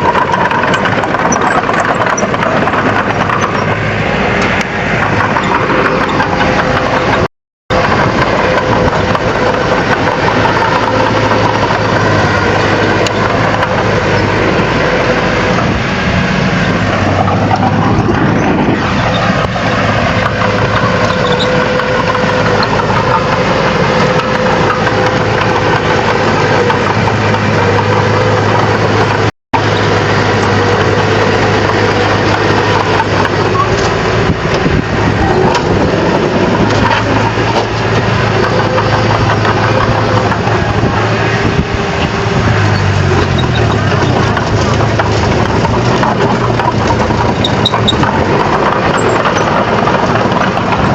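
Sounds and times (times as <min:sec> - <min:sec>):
bulldozer diesel engine: 0:00.0 - 0:50.9
mechanical clatter: 0:00.0 - 0:50.9.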